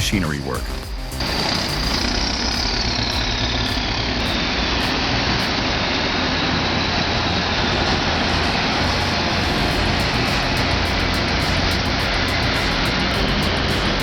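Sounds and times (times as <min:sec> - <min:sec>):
bulldozer engine rumbling: 0:01.2 - 0:14.0.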